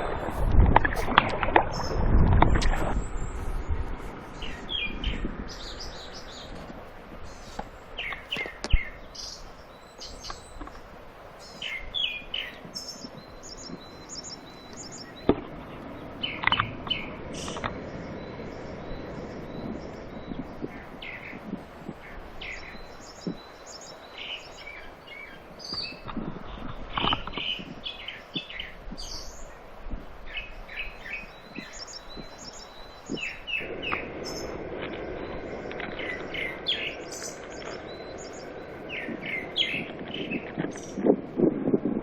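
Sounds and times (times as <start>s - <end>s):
small birds chirping: 0.0s - 41.4s
steady rushing noise: 0.0s - 42.0s.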